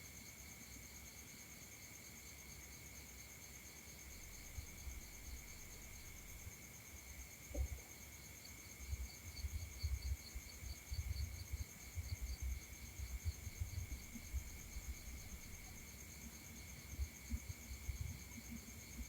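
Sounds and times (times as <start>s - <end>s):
insects chirping: 0.2s - 19.0s.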